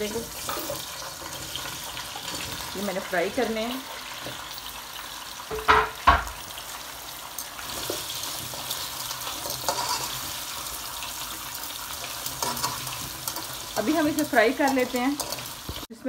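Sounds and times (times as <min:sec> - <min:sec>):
metal tongs turning food: 0:00.0 - 0:04.5, 0:07.4 - 0:15.9
vegetables sizzling in hot oil: 0:00.0 - 0:16.0.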